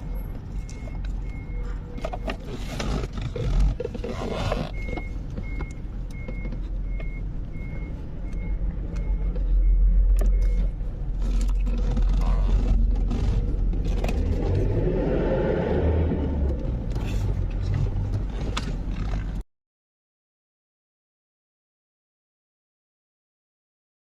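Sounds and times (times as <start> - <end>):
vehicle engine rumbling: 0.0 - 19.4.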